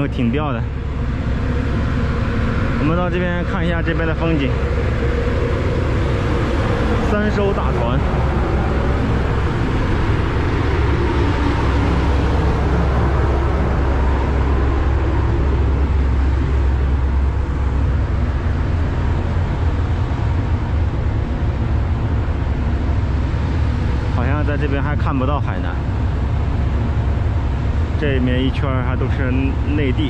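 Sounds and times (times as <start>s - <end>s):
ship engines rumbling: 0.0s - 30.0s.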